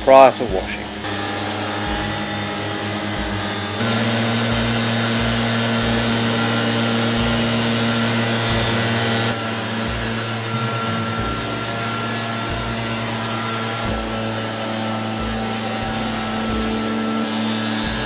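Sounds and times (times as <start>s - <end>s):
leaf blower running: 0.0s - 18.0s.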